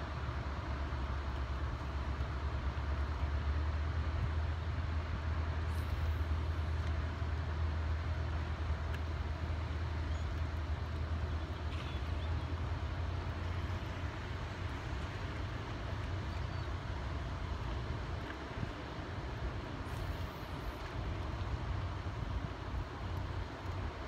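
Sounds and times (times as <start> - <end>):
rumble of dam water discharge: 0.0 - 24.0.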